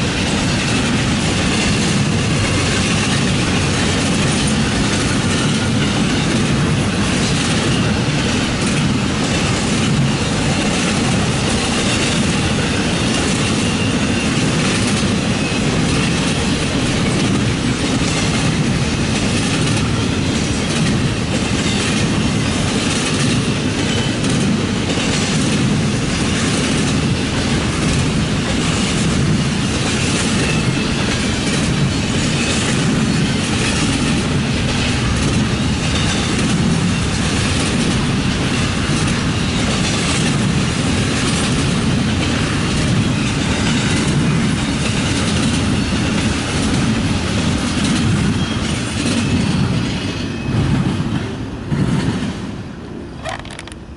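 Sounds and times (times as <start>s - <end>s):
train wheels clicking over rail joints: 0.0s - 52.6s, 53.2s - 53.9s.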